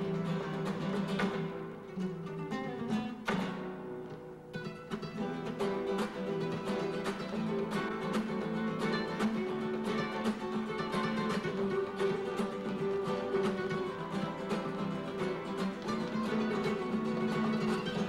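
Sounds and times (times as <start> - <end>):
acoustic guitar flamenco rumba: 0.0 - 18.0.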